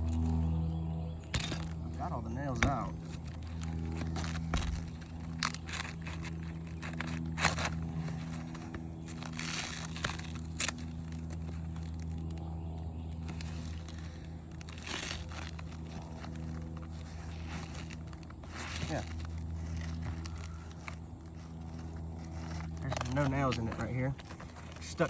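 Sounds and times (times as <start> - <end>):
low hum: 0.0 - 25.0
scraping crackling rasps: 0.0 - 25.0
shingle being torn loose: 1.2 - 25.0.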